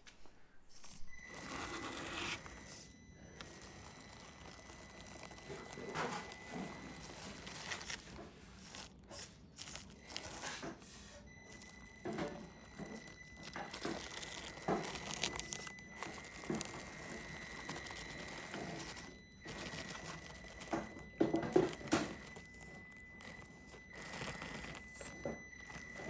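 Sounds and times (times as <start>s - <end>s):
electric motor high whine: 0.7s - 26.0s.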